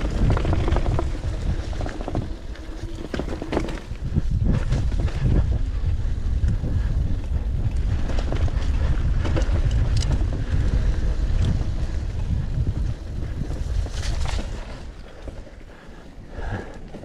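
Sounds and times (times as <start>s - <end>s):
wind buffeting microphone: 0.0s - 16.7s
bike clicks and rattles: 0.0s - 17.0s.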